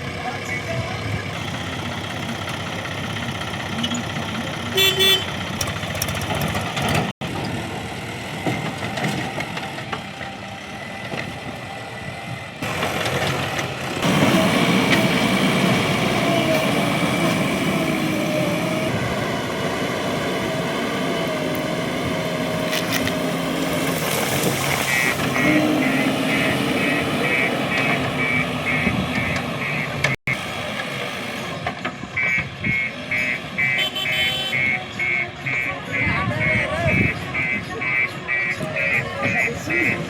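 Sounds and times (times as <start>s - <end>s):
diesel machinery engine running: 0.0s - 40.0s.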